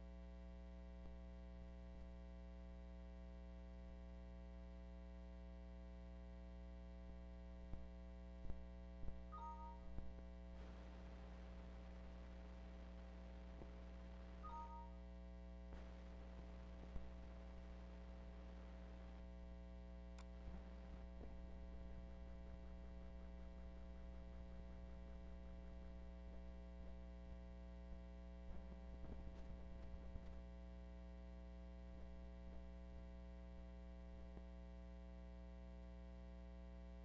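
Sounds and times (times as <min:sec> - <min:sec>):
faint mains hum: 0:00.0 - 0:37.0.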